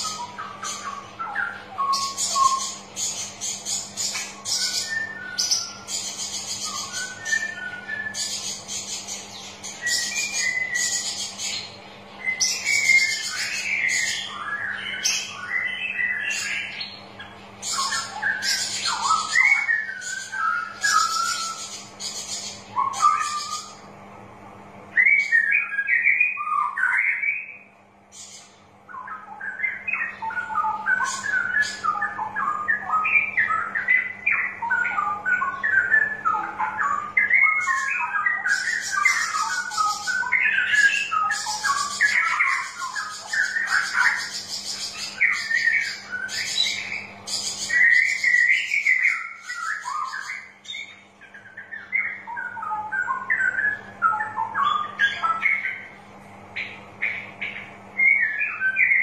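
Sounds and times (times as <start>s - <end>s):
bird warbling: 0.0s - 24.0s, 24.9s - 59.0s.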